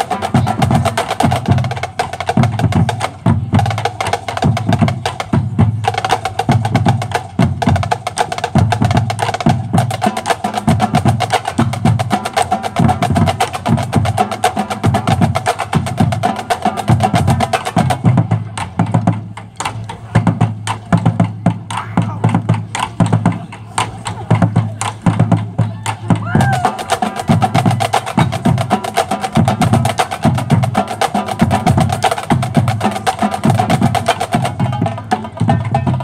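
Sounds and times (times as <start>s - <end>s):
marching drumline playing: 0.0s - 36.0s.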